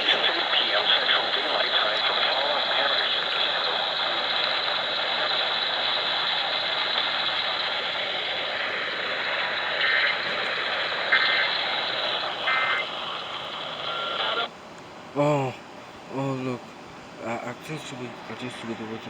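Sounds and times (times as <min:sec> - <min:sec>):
radio static hiss: 0:00.0 - 0:14.5, 0:15.2 - 0:19.0.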